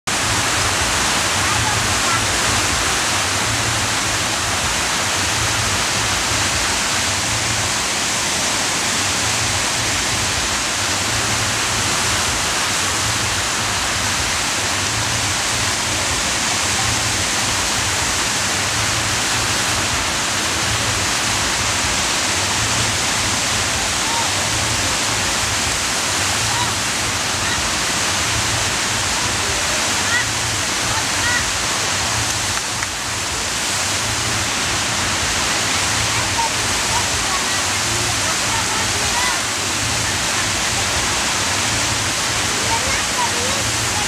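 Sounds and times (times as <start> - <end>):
rushing water hiss: 0.0 - 44.0.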